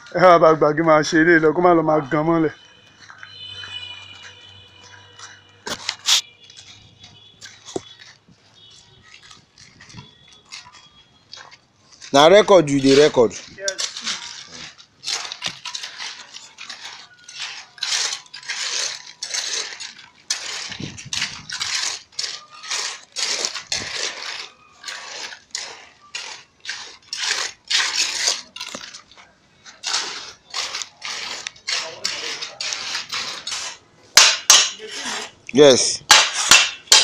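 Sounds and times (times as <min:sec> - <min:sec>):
hand tool scraping and tapping concrete: 0:03.0 - 0:08.2, 0:09.0 - 0:37.0.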